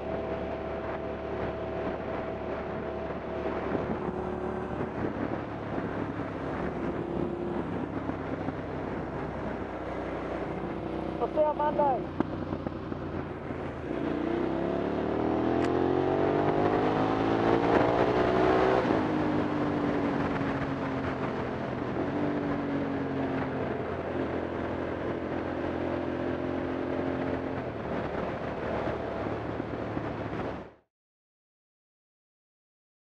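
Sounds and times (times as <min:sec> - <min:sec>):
motorcycle engine accelerating: 0:00.0 - 0:30.8
wind and road noise: 0:00.0 - 0:30.9.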